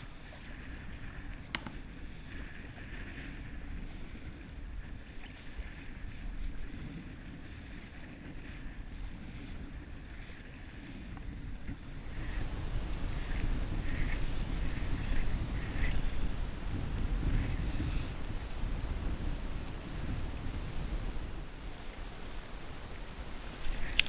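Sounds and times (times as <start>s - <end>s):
paddle splashing in water: 0.0s - 18.6s, 23.3s - 24.0s
wind rumbling on microphone: 0.0s - 24.0s.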